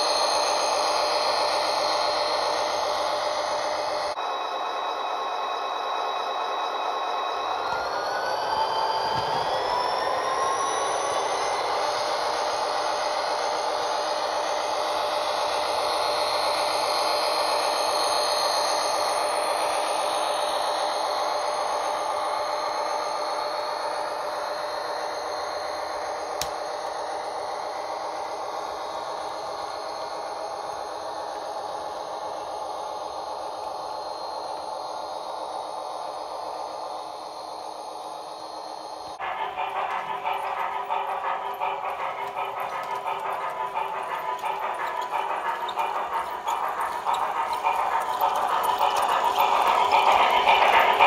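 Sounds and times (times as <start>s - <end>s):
model train motor whir: 0.0s - 4.2s, 4.9s - 51.0s.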